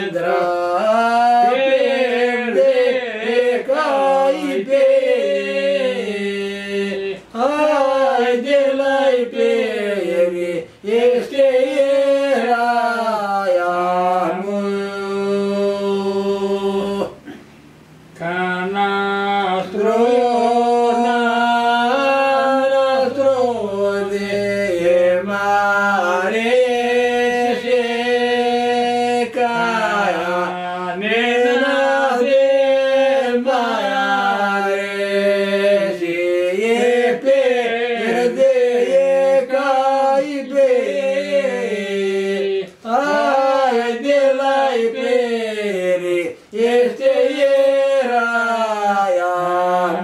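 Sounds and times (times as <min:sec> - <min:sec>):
men singing unaccompanied: 0:00.0 - 0:17.4, 0:18.0 - 0:50.0.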